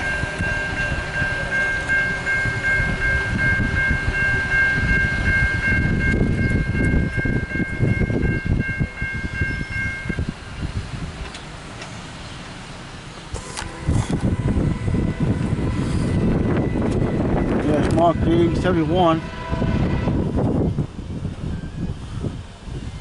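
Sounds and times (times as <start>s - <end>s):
crossing warning bell ringing: 0.0s - 10.9s, 12.0s - 23.0s
train rumble: 0.0s - 23.0s.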